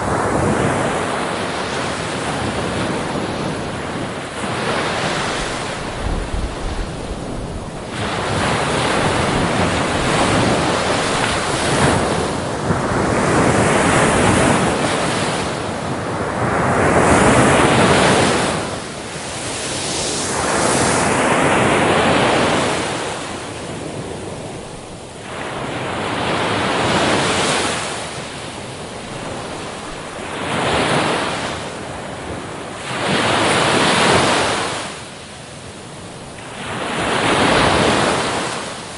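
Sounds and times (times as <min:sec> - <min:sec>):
waves washing in: 0:00.0 - 0:38.9
wind noise on microphone: 0:00.0 - 0:38.9.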